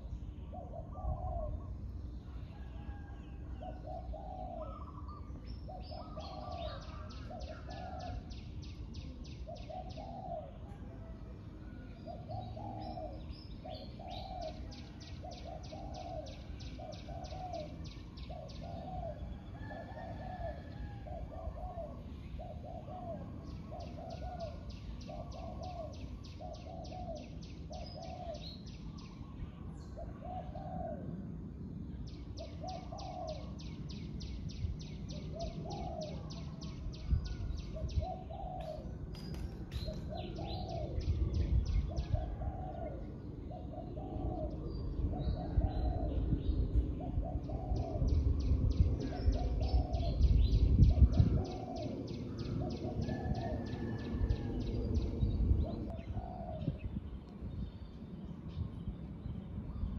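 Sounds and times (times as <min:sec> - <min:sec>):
doves cooing: 0:00.5 - 0:08.3, 0:09.5 - 0:28.6, 0:29.9 - 0:31.3, 0:32.4 - 0:33.9, 0:35.1 - 0:36.6, 0:37.2 - 0:54.8, 0:55.7 - 0:57.0.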